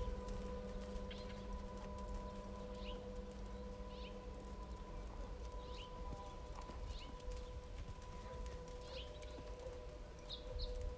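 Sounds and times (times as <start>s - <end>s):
horse hooves on sand: 0.0s - 10.9s
low wind rumble: 0.0s - 10.9s.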